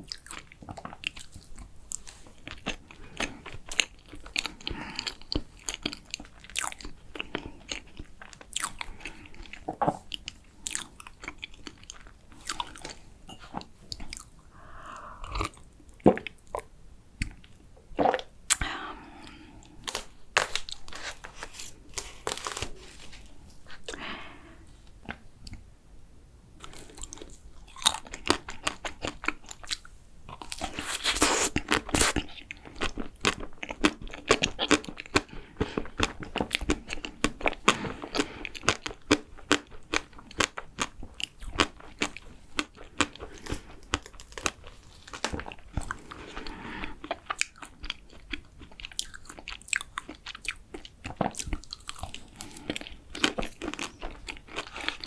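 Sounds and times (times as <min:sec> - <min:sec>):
person chewing crunchy food: 0:00.0 - 0:24.4, 0:26.6 - 0:55.0.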